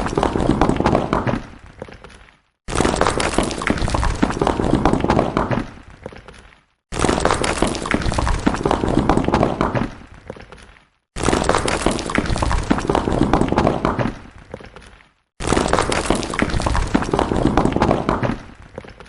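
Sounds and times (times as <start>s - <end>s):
stones falling and clattering: 0.0s - 19.0s.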